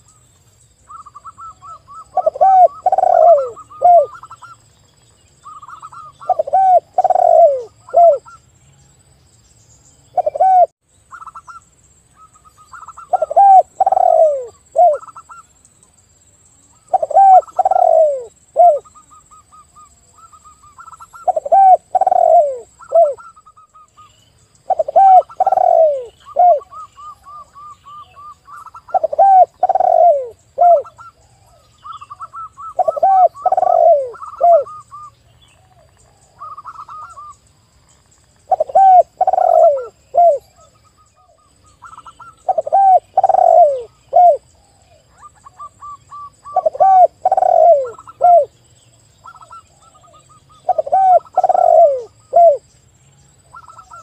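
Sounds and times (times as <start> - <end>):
doves cooing: 0.9 - 4.6, 5.4 - 8.4, 10.2 - 11.4, 12.3 - 15.4, 16.8 - 23.8, 24.6 - 37.4, 38.5 - 48.6, 49.2 - 52.6, 53.5 - 54.0.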